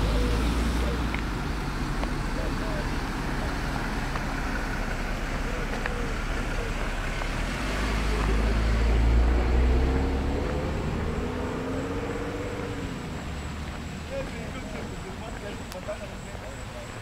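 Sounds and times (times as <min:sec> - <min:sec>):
vehicle driving past: 0:00.0 - 0:15.6.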